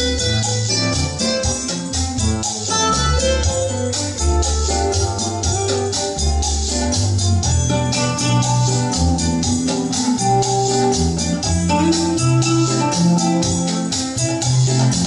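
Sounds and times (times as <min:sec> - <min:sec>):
recorded music over loudspeakers: 0:00.0 - 0:15.0.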